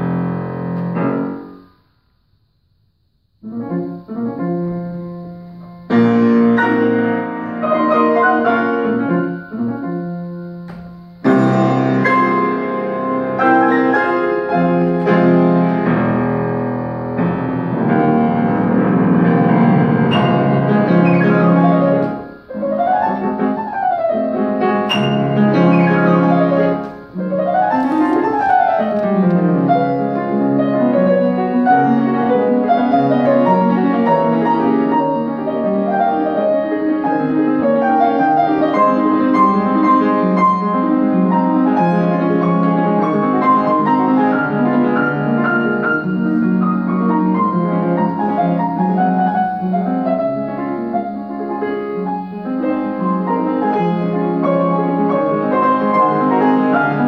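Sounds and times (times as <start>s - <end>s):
solo grand piano: 0.0s - 57.0s.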